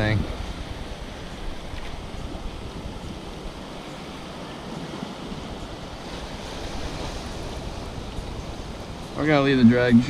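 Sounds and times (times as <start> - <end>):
waves washing against rocks: 0.0 - 10.0
wind rumbling on microphone: 0.0 - 10.0.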